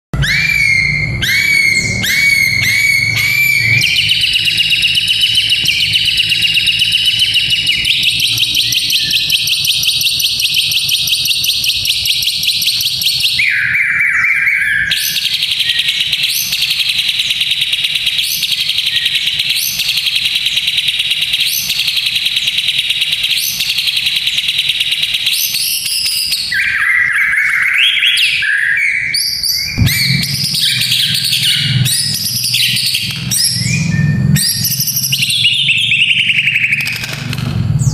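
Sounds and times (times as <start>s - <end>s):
bird whistled phrases: 0.2s - 37.0s.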